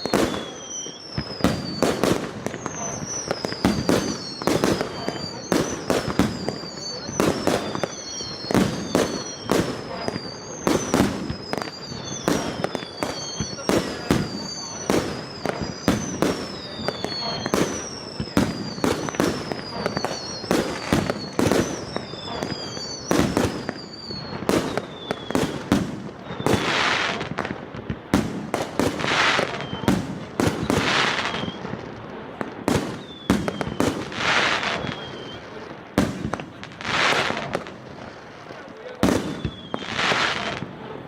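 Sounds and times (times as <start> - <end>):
firework rushing bursts: 0.0 - 40.9
firework bangs: 0.0 - 41.0
firework whistles: 0.0 - 41.0.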